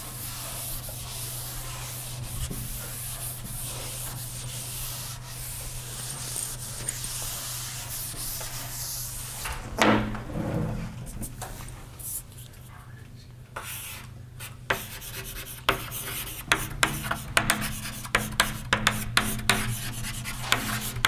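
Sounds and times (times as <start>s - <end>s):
rubbing against a board: 0.0s - 9.5s, 13.6s - 21.0s
low electrical hum: 0.0s - 21.0s.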